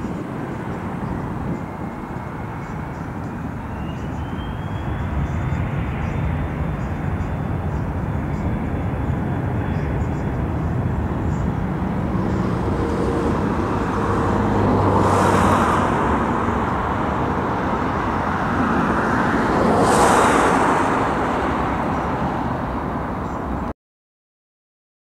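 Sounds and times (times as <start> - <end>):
jet engines at takeoff: 0.0 - 23.7.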